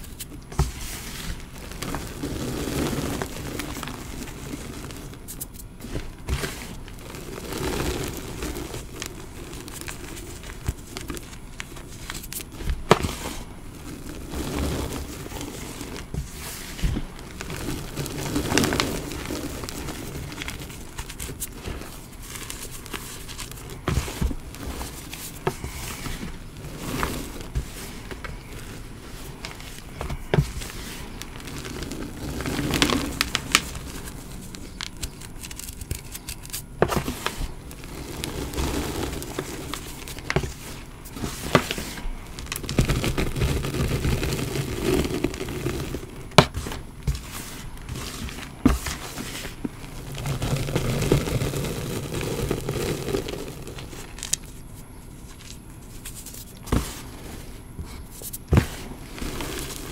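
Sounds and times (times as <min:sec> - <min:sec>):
crunchy bits crackling: 0:00.0 - 0:59.9
powder swishing puffs: 0:00.0 - 0:59.9.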